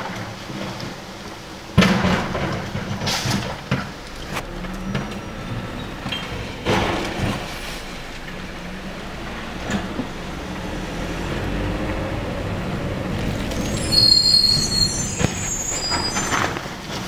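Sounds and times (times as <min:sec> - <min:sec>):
garbage truck engine running: 0:00.0 - 0:17.0
recyclables clattering: 0:00.0 - 0:17.0.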